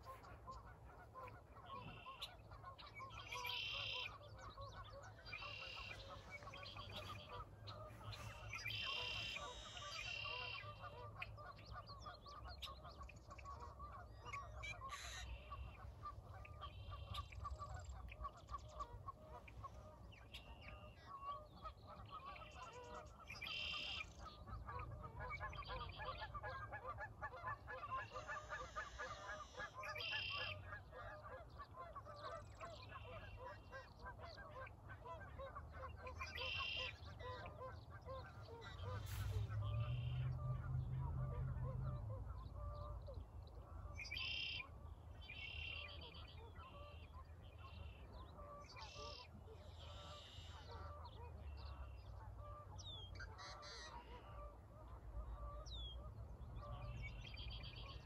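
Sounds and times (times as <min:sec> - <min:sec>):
flock of birds calling: 0:00.0 - 0:58.0.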